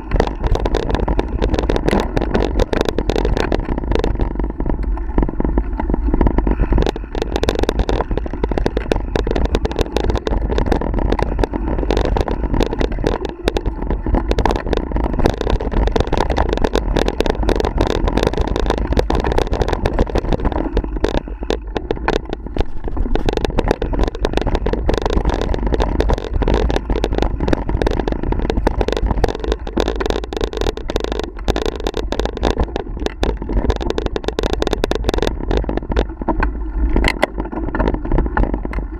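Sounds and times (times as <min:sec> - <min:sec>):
bike clattering and rattling: 0:00.0 - 0:38.9
bike tyres rumbling on dirt trail: 0:00.0 - 0:38.9.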